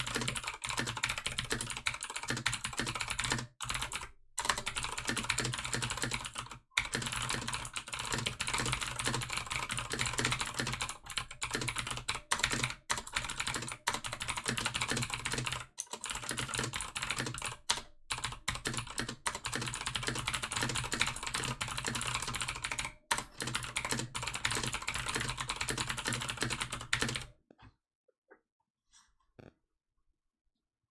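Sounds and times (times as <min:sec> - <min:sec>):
fast typing on mechanical keyboard: 0:00.0 - 0:27.3.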